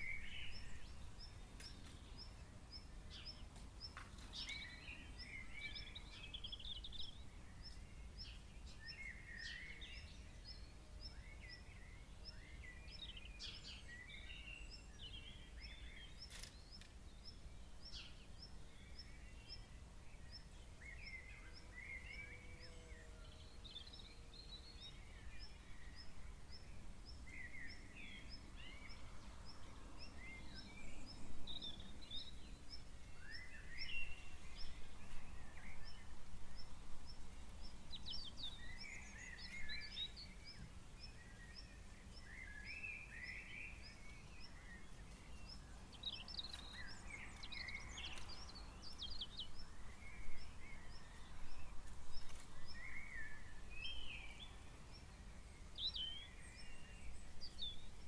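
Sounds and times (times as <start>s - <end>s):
birds chirping and twittering: 0.0s - 58.0s.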